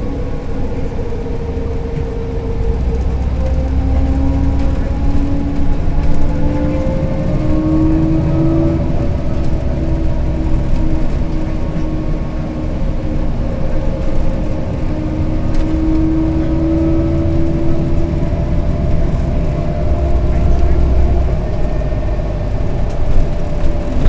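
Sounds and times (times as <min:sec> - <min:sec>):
bus engine and tyre rumble: 0:00.0 - 0:24.0
rising engine whine: 0:00.0 - 0:24.0.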